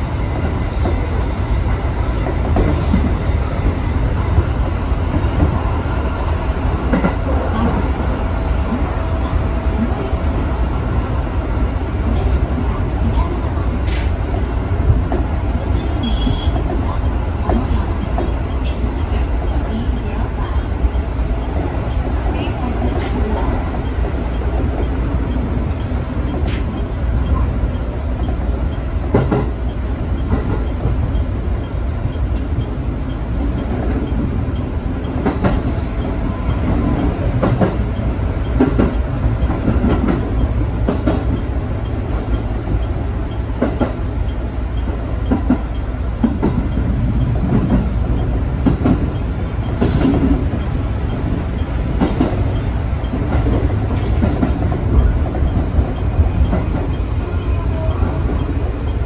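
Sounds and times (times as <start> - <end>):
train motors and wheels rumbling: 0.0 - 59.0.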